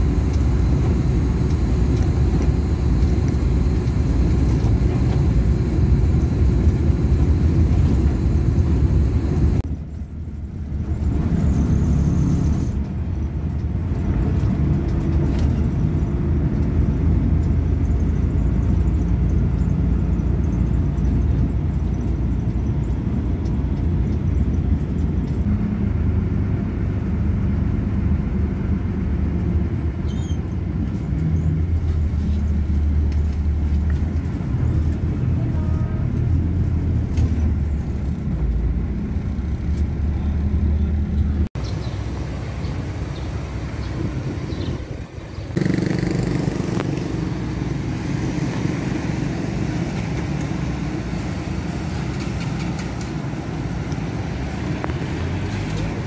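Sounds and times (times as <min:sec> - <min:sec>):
engines idling: 0:00.0 - 0:29.9, 0:30.7 - 0:56.0
bus engine drone: 0:00.0 - 0:56.0
vehicles passing: 0:00.0 - 0:56.0.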